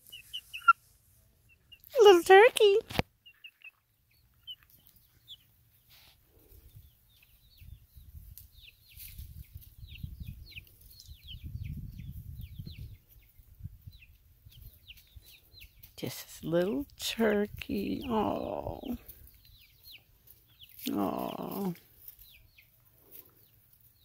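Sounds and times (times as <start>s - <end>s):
chick chirping: 0.0s - 0.8s, 1.4s - 2.3s, 3.1s - 16.0s, 17.7s - 24.0s.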